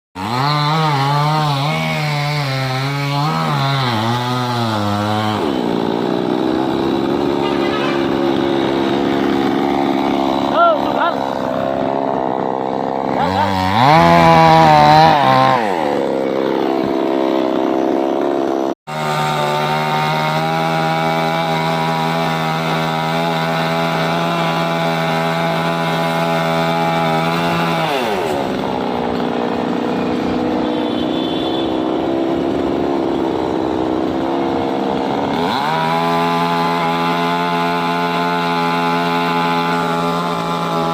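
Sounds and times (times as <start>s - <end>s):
chainsaw engine revving: 0.2s - 40.9s.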